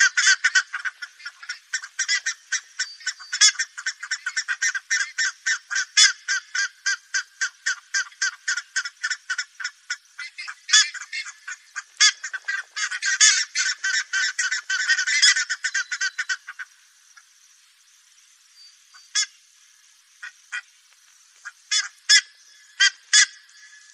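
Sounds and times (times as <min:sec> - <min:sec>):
ibises calling: 0:00.0 - 0:23.9.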